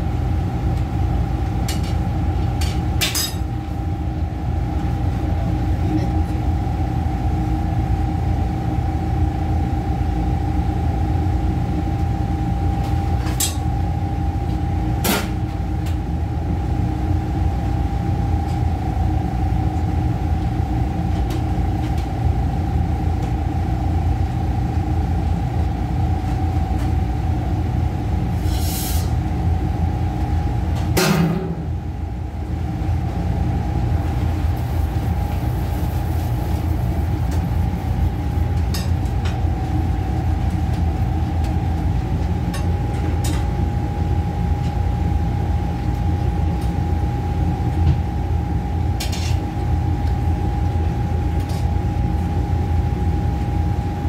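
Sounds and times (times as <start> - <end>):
low rumble of kitchen equipment: 0.0 - 54.0
mid-pitched hum: 0.0 - 54.0.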